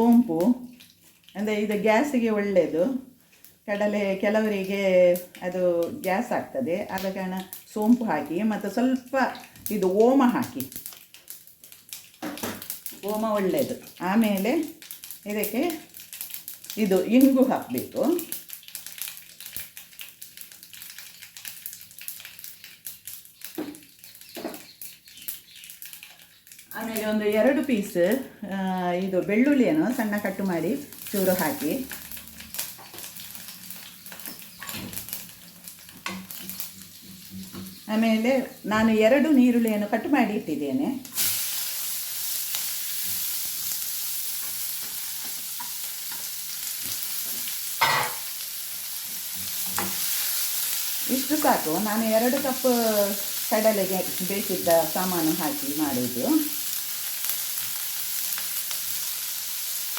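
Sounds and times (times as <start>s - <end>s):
spices crackling in hot oil: 0.0s - 59.9s.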